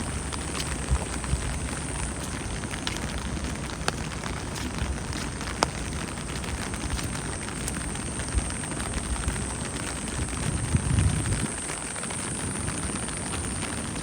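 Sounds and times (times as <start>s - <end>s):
steady rain falling: 0.0s - 14.0s
water drips: 0.0s - 14.0s.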